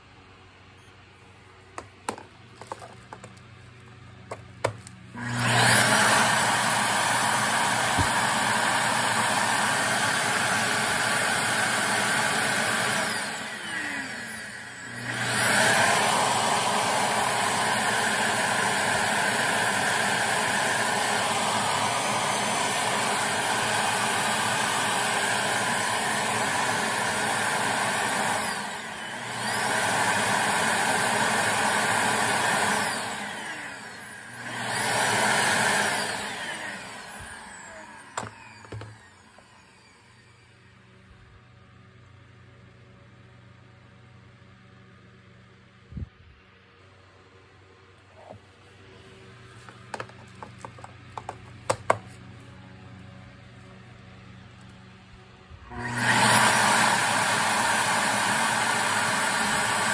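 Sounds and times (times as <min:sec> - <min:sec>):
vacuum cleaner motor running: 0:01.8 - 0:41.6, 0:48.0 - 0:59.9.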